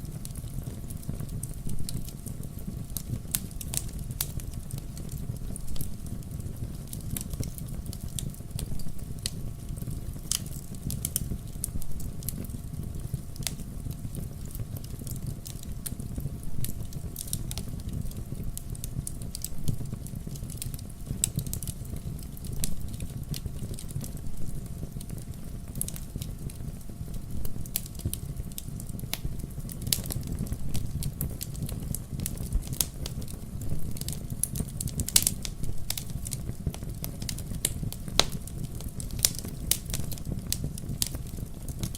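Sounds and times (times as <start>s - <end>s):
logs crackling and popping: 0.0s - 41.9s
low rumble of flames: 0.0s - 41.9s.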